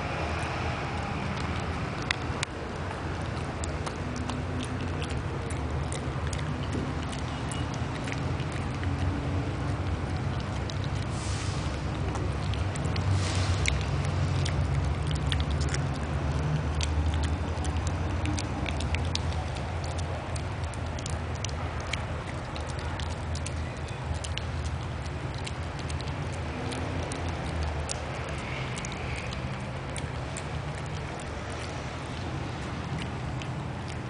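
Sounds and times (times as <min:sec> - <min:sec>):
dog crunching carrot: 0:00.0 - 0:34.0
low background hum: 0:00.0 - 0:34.0.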